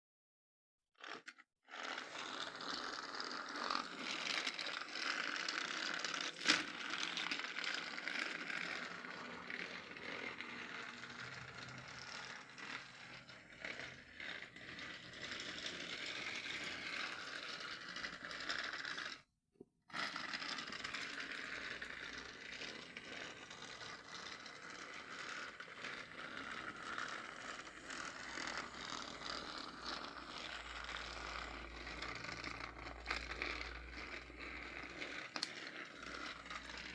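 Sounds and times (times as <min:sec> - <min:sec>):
toy train motor whirring: 0:01.0 - 0:19.2, 0:19.9 - 0:36.9
wheels clicking on plastic track: 0:01.0 - 0:19.2, 0:19.9 - 0:36.9.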